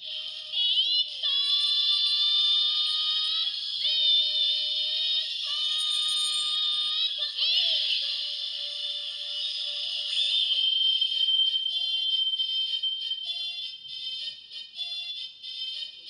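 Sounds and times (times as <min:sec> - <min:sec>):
toy wand electronic tones: 0:00.0 - 0:15.1.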